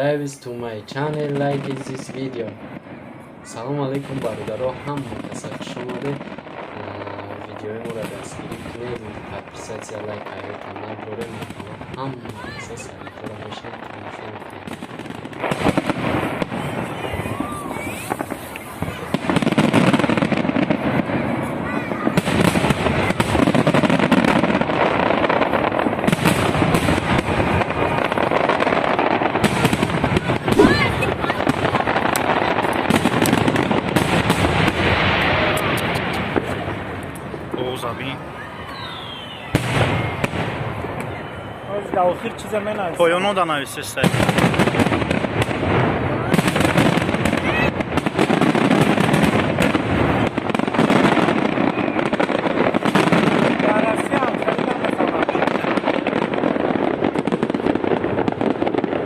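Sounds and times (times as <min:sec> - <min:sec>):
fireworks crackling and popping: 0:00.0 - 0:59.0.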